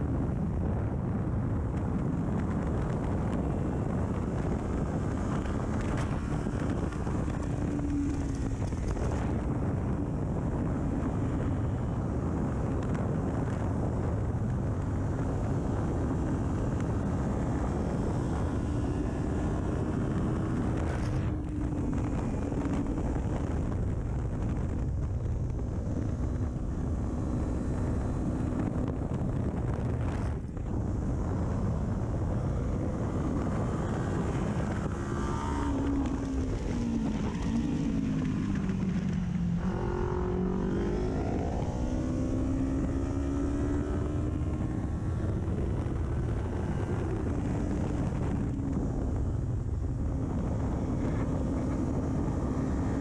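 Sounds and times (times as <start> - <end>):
motorcycle engine running hard: 0.0 - 53.0
wind rush on microphone: 0.0 - 53.0.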